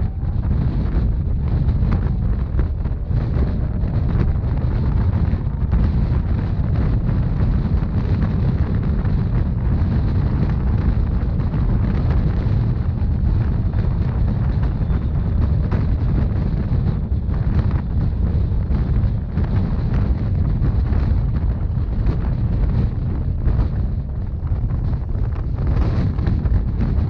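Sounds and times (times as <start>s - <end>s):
train rumbling along track: 0.0s - 27.0s
wind buffeting microphone: 0.0s - 27.0s.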